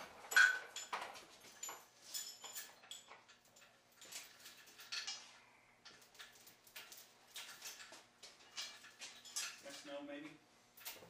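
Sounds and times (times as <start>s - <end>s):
chain clinking: 0.3s - 10.0s, 10.7s - 11.0s.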